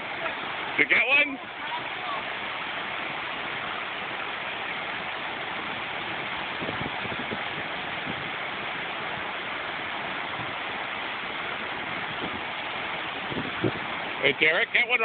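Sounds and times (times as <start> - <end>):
whitewater rushing over rocks: 0.0 - 15.0.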